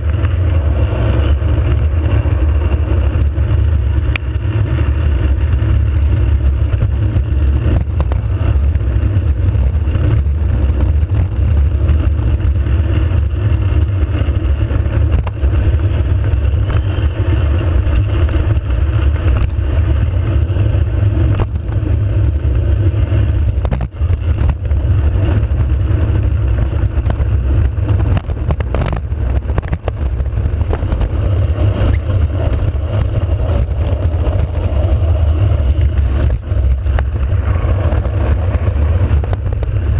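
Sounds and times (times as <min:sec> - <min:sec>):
cart wheels rumbling on asphalt: 0:00.0 - 0:39.9
cart knocking and rattling: 0:05.6 - 0:39.9.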